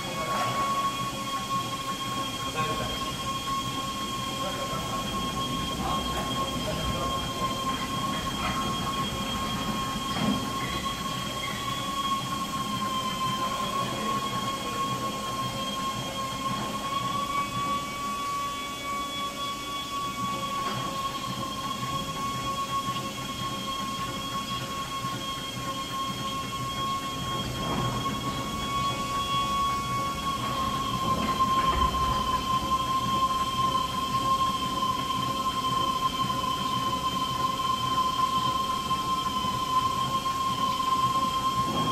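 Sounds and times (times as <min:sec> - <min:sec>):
lathe tool whine on spinning wheel: 0:00.0 - 0:41.9
machine noise: 0:00.0 - 0:41.9.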